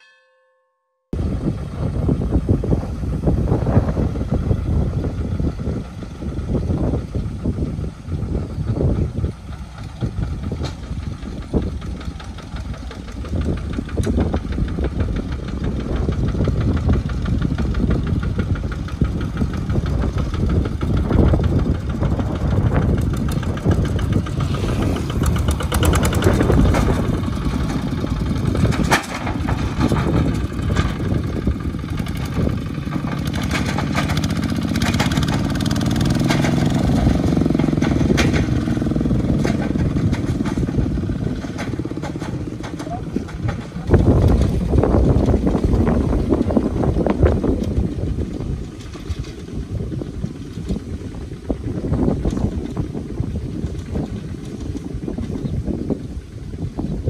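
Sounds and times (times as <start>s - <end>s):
diesel tractor engines running: 1.2s - 57.0s.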